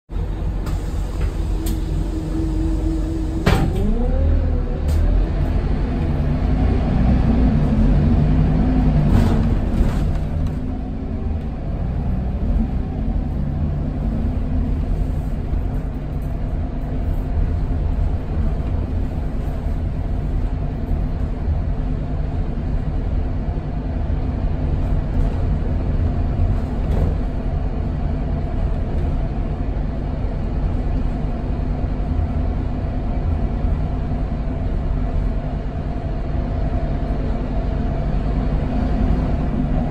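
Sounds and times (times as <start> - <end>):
bus diesel engine rumble: 0.1 - 39.9.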